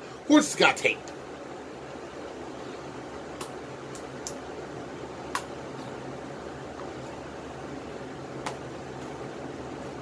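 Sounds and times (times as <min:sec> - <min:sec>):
room fan humming: 0:00.0 - 0:10.0.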